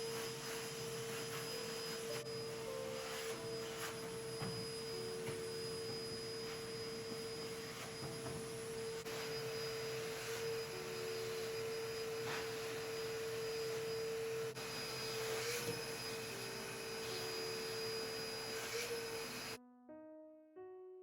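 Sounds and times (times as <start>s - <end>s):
small power tool motor humming: 0.0s - 19.6s.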